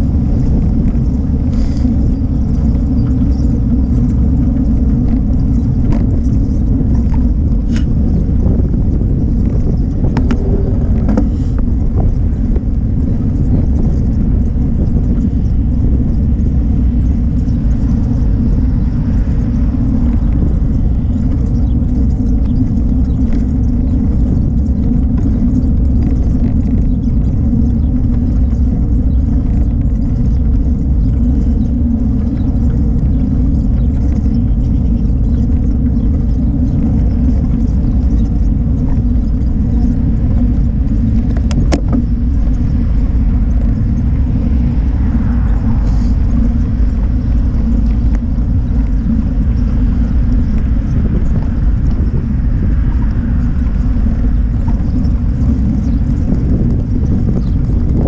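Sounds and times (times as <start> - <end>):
bicycle tyres rolling on pavement: 0.0 - 58.0
wind on microphone: 0.0 - 58.0.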